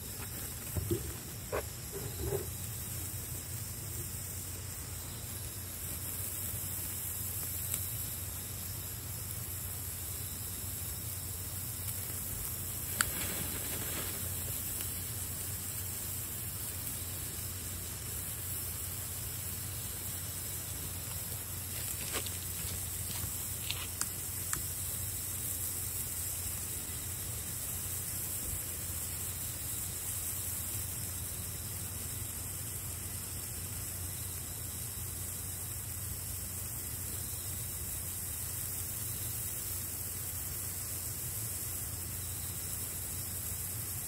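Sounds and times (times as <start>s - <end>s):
fireworks fizzing: 0.0s - 10.8s, 11.4s - 44.0s
sharp firework crackles: 0.0s - 44.0s.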